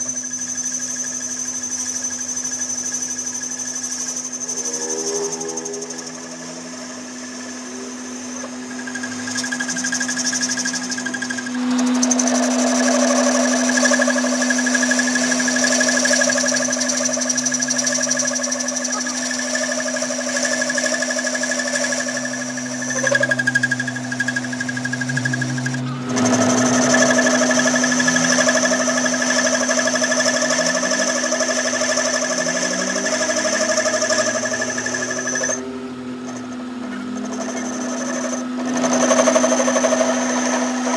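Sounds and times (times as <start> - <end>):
electric workshop machine humming: 0.0 - 40.9.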